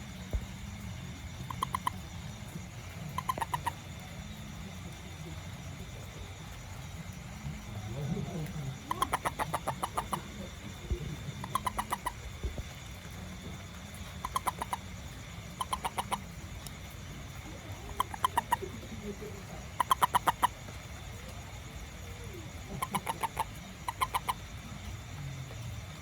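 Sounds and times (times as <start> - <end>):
frog calls pulsed trills: 0.0 - 26.0.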